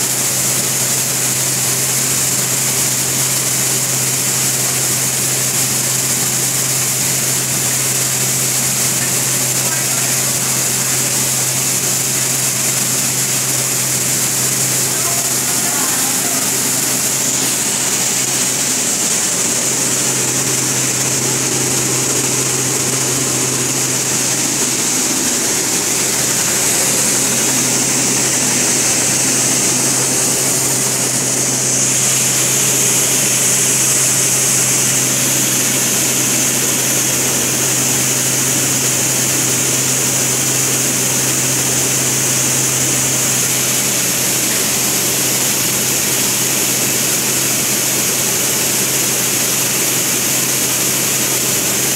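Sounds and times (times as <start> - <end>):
fans blowing rush of air: 0.1 - 51.9.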